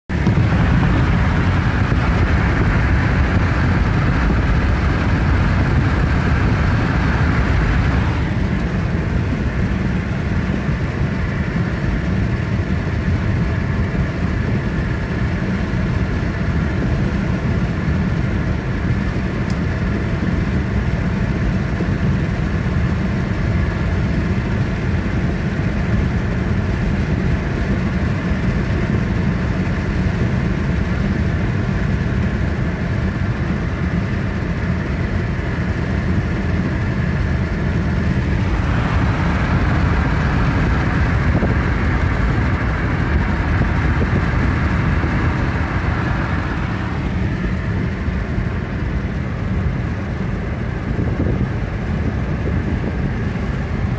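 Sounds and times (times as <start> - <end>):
car engine and tyre rumble: 0.1 - 53.9
road and wind hiss: 0.1 - 53.9.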